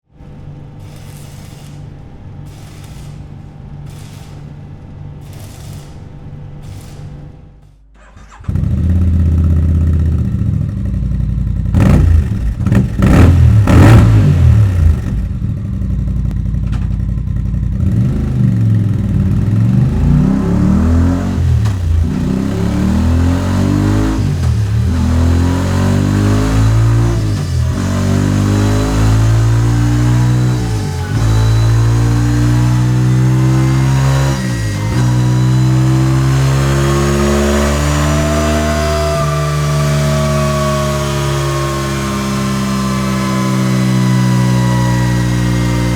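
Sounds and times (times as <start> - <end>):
motorcycle engine revving: 8.0 - 45.9.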